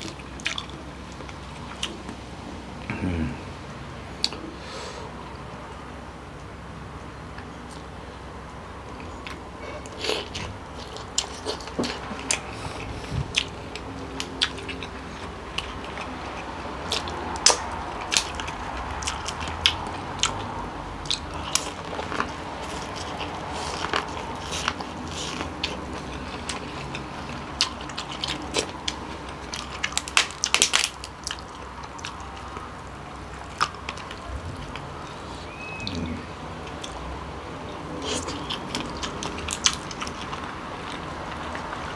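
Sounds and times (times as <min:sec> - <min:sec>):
biting and chewing: 0:00.0 - 0:02.2, 0:09.0 - 0:41.9.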